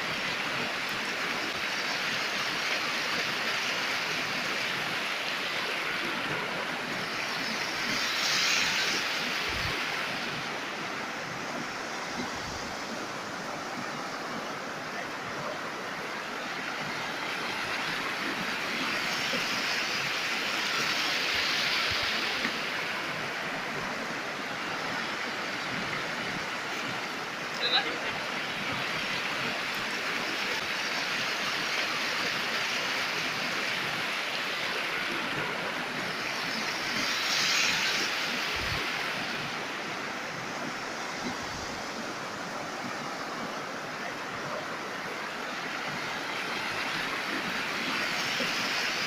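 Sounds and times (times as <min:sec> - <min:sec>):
river rushing: 0:00.0 - 0:49.0.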